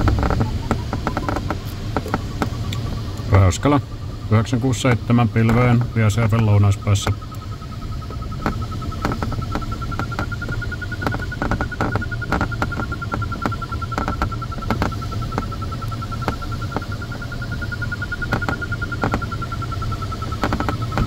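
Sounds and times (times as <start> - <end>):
air rushing over cockpit: 0.0 - 21.0
sharp clicks: 0.0 - 21.0
variometer beeping rapidly: 0.0 - 21.0.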